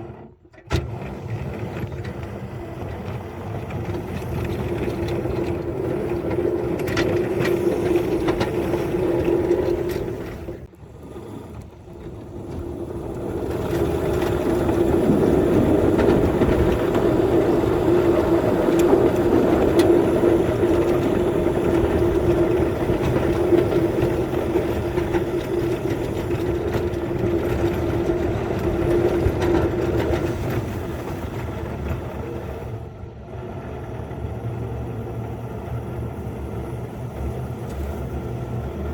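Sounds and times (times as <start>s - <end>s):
small engine humming: 0.0s - 31.1s, 31.8s - 38.9s.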